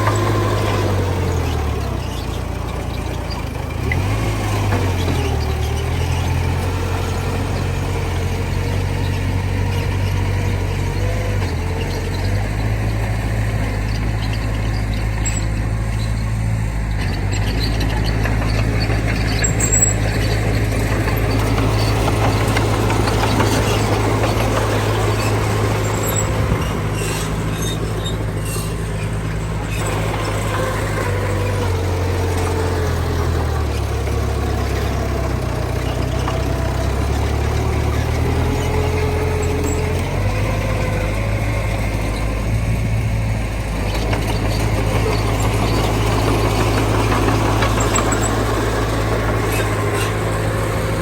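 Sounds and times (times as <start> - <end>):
heavy diesel engines running: 0.0 - 51.0.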